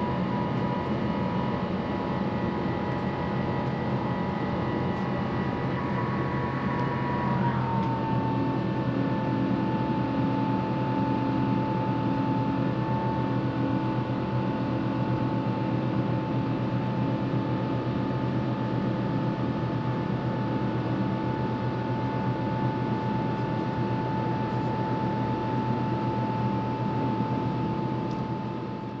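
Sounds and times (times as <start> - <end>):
jet engine hum and whine: 0.0 - 29.0.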